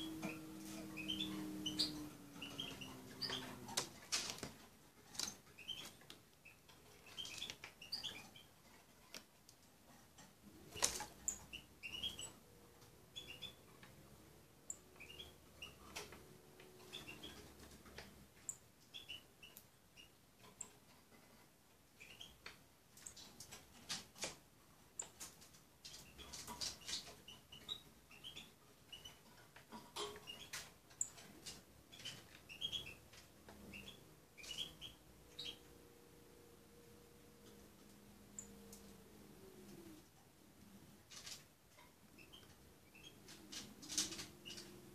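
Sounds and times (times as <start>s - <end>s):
small birds chirping: 0.0s - 9.2s, 10.2s - 20.9s, 21.9s - 44.9s.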